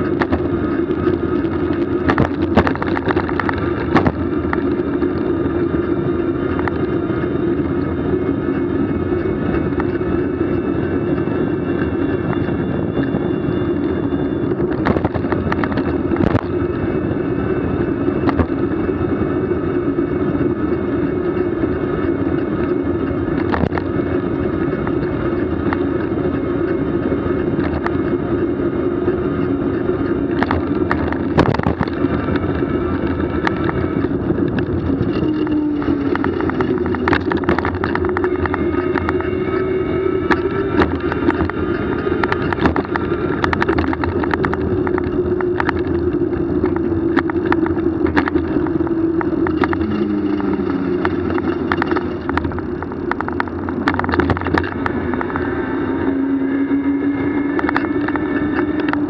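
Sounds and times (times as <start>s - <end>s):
vehicle travel hum: 0.0s - 59.0s.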